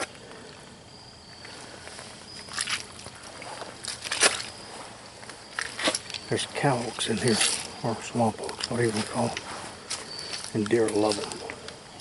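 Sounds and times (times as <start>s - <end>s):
faint steady background: 0.0s - 12.0s.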